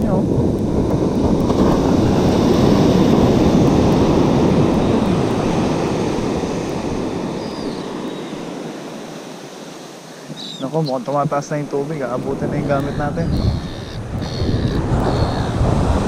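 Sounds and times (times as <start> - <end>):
wind rumbling on microphone: 0.0 - 9.4, 10.2 - 16.0
surf breaking on beach: 0.0 - 16.0.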